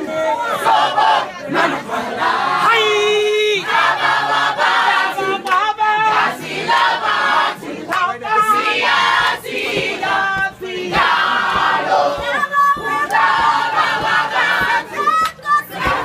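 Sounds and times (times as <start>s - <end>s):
crowd shouting and cheering: 0.0s - 16.0s
group singing and chanting: 0.0s - 16.0s.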